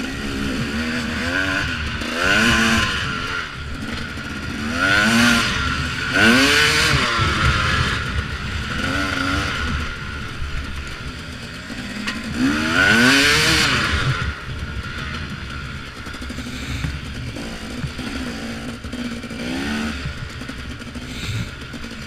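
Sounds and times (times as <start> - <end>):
bike rattling on rough ground: 0.0 - 22.0
dirt bike engine revving: 0.0 - 22.0.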